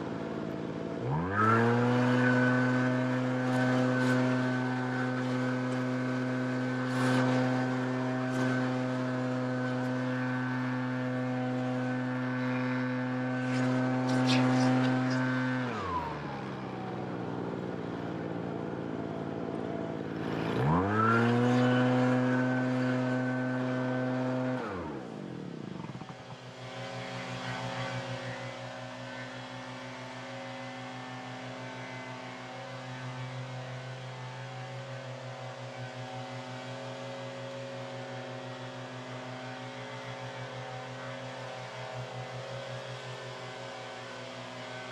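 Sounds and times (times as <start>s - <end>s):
small petrol engine revving: 0.0s - 44.9s.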